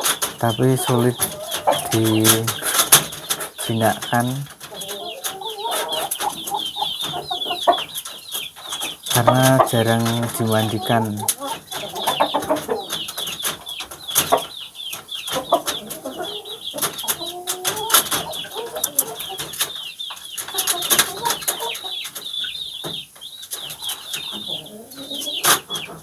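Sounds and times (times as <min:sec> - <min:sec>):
chickens clucking: 0:00.0 - 0:26.0
lower chicken calls: 0:00.0 - 0:26.0.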